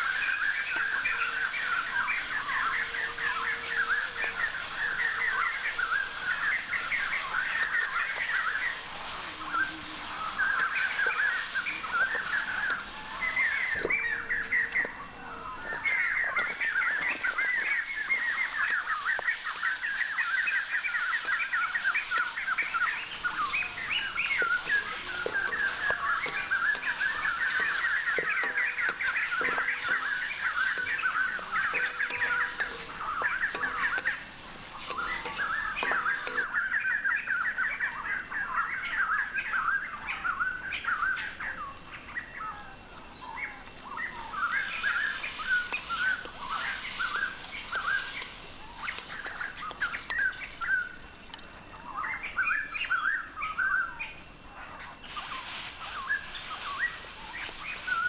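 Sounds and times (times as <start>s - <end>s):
birds chirping and chattering: 0.0s - 58.0s.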